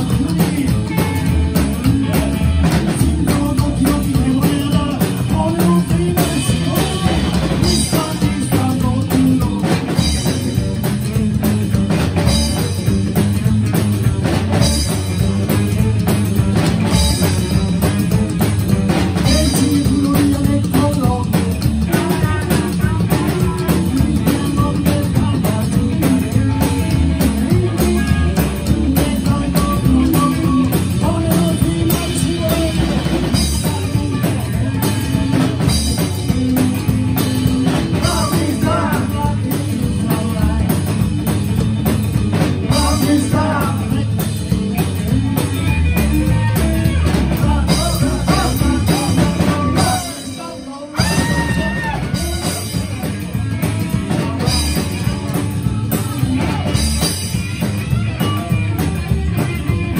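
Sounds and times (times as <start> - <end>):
person singing: 0.0 - 13.4, 14.0 - 41.4, 42.6 - 59.9
drum kit: 0.0 - 59.9
electric guitar: 0.0 - 59.9
upright bass: 0.0 - 59.9.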